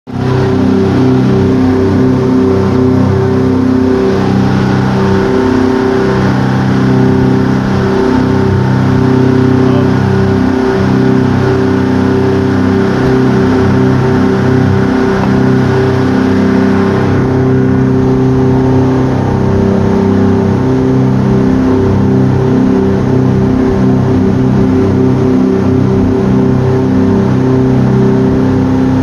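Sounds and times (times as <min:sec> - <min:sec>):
boat engine drone: 0:00.1 - 0:29.0
water churning in wake: 0:00.1 - 0:29.0.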